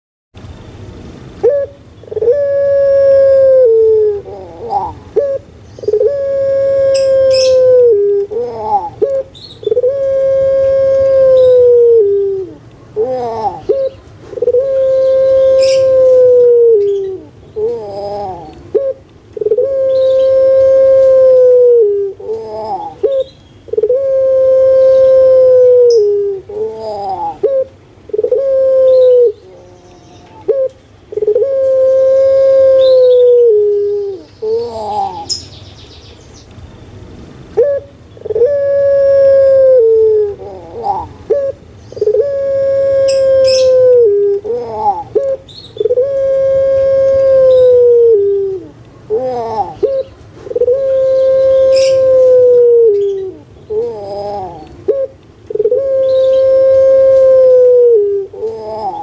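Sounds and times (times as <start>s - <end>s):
dove cooing: 1.4s - 35.4s, 37.6s - 59.0s.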